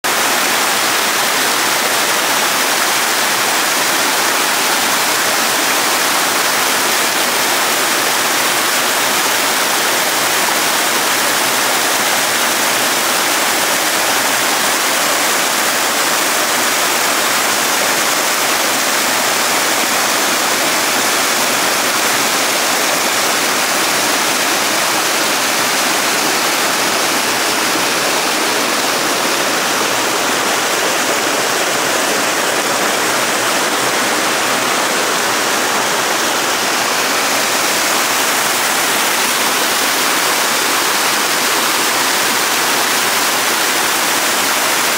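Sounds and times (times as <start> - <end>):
waterfall splashing into a pool: 0.0 - 44.9.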